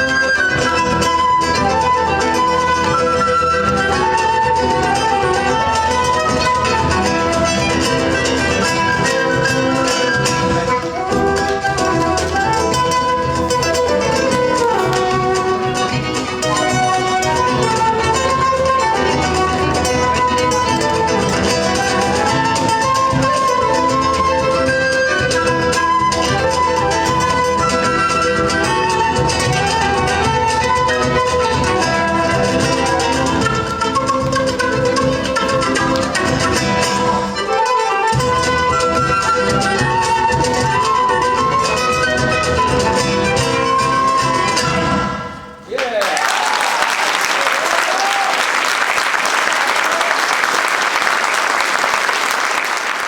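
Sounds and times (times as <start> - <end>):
instrumental folk ensemble: 0.0 - 45.7.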